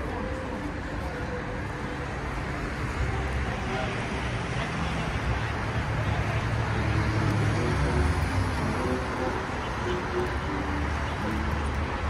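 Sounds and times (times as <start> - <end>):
faint voices: 0.0 - 12.0
passing cars humming: 0.0 - 12.0.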